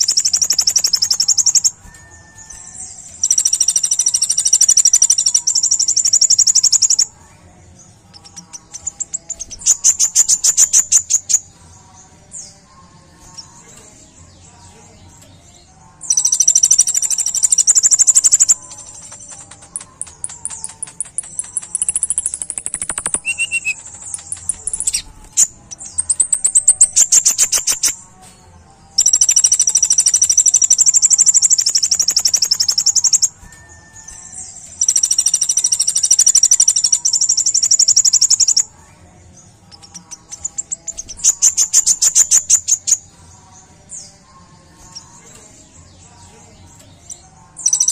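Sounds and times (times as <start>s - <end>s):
sunbird trilling song: 0.0s - 7.2s, 8.1s - 28.1s, 29.0s - 38.8s, 39.6s - 47.9s.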